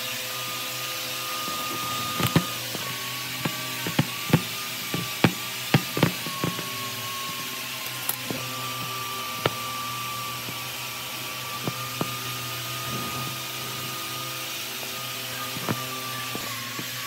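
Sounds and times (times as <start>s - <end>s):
small motor whining: 0.0s - 17.0s.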